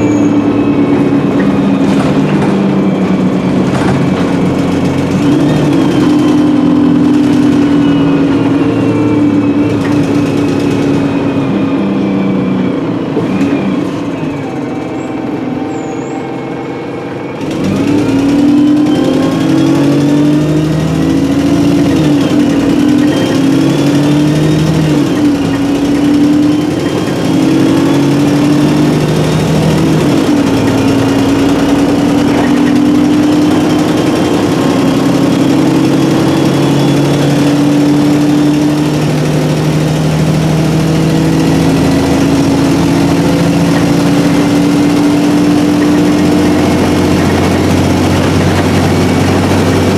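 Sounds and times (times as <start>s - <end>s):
bus engine accelerating: 0.0s - 49.9s
gearbox whine: 0.0s - 49.9s.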